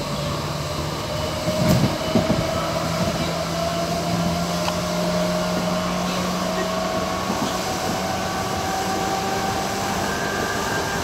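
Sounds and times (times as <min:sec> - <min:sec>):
train wheels rolling: 0:00.0 - 0:11.0.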